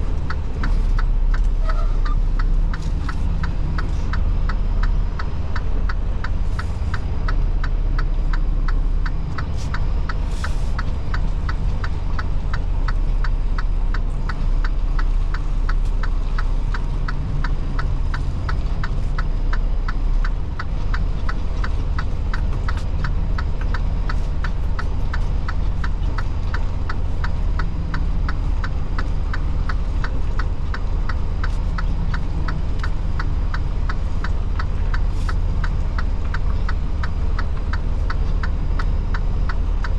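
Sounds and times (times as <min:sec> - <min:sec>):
even ticking: 0:00.0 - 0:39.9
truck diesel engine rumbling: 0:00.0 - 0:39.9.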